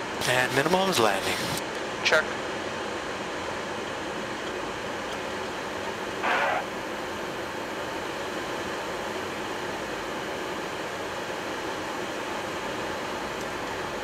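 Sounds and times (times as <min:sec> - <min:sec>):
steady rushing noise in cockpit: 0:00.0 - 0:14.0.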